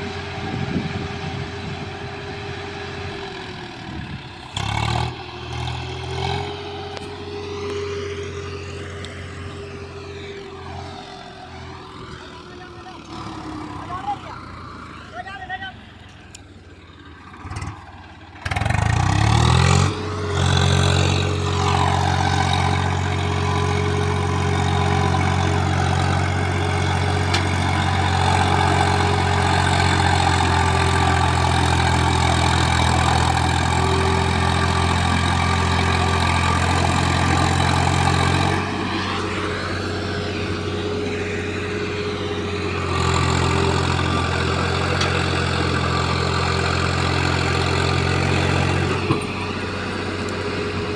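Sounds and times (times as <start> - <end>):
tractor diesel engine revving: 0.0 - 50.9.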